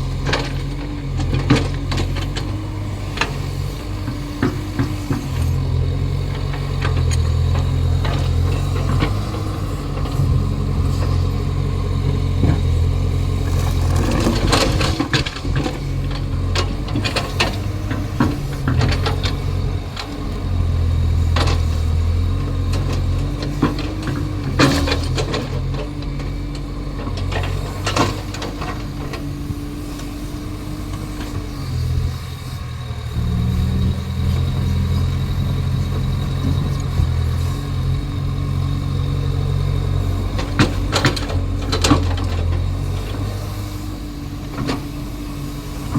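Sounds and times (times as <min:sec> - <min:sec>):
excavator diesel engine hum: 0:00.0 - 0:45.9.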